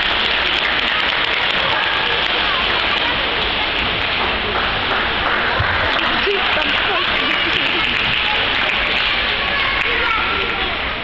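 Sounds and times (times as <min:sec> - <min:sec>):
churning pool water splashing: 0:00.0 - 0:10.9.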